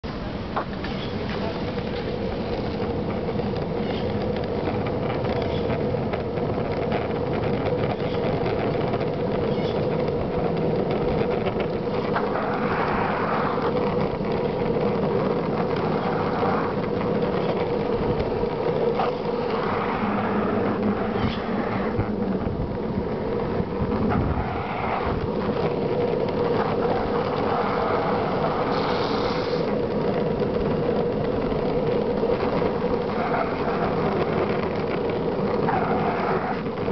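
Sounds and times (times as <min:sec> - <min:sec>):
skateboard wheels rolling on asphalt: 0:00.0 - 0:36.9.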